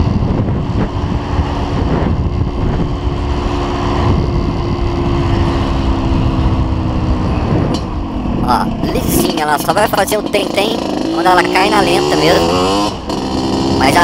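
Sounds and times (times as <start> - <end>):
two-stroke motorcycle engine running: 0.0 - 14.0
wind on microphone: 0.0 - 14.0.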